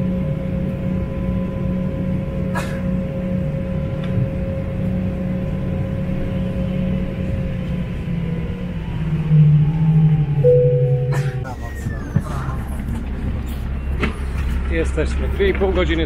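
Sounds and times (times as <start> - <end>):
jet cabin hum and whine: 0.0 - 14.6.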